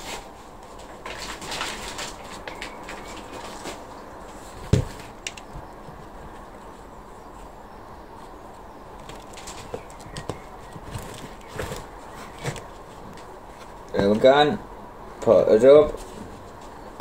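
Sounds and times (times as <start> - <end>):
plastic pots rustling: 0.0 - 14.6.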